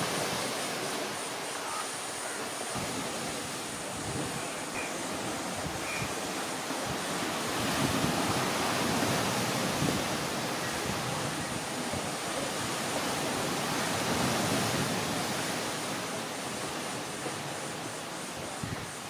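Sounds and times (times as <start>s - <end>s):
sea surf rushing: 0.0s - 19.0s
wind on microphone: 0.0s - 19.0s.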